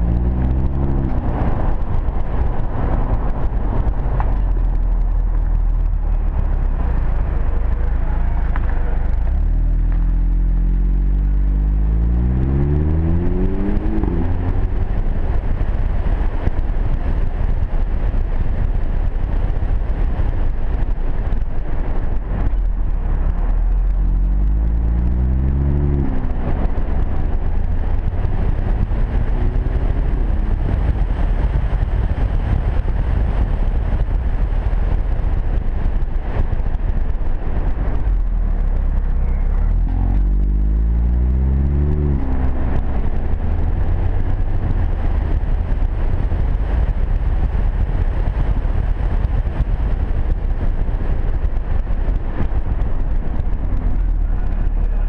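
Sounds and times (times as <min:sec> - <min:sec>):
car exhaust rising in pitch: 0:00.0 - 0:55.0
wind noise: 0:00.0 - 0:55.0.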